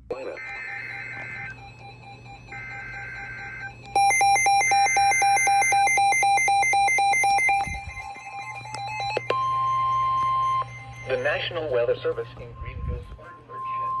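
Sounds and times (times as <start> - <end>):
faint steady tones: 0.0 - 14.0
rapid electronic alert beeps: 0.1 - 12.7.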